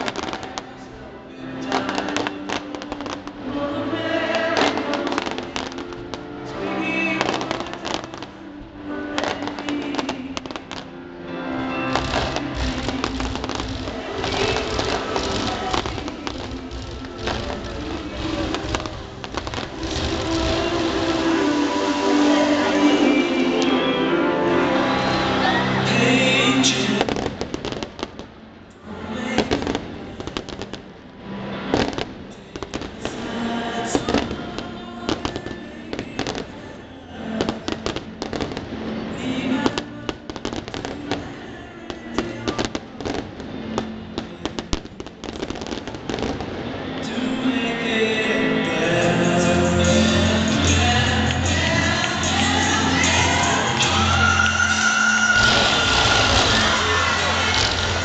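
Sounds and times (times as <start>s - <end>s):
fireworks bangs and crackles: 0.0s - 28.5s, 29.2s - 47.9s, 49.0s - 58.0s
music over loudspeakers: 0.0s - 58.0s.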